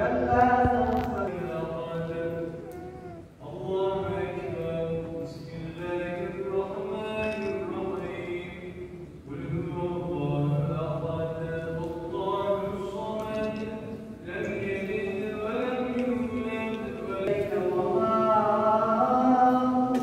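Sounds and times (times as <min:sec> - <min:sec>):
man chanting melodic recitation: 0:00.1 - 0:19.9.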